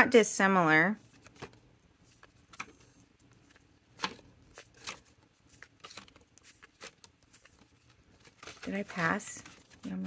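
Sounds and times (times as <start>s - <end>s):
paper cards rustling: 1.0s - 10.0s.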